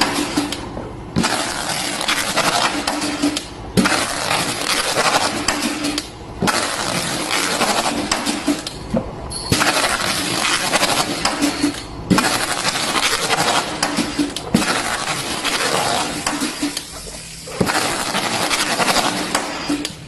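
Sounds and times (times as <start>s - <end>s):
taping machine rush: 1.2s - 8.7s, 9.5s - 19.9s.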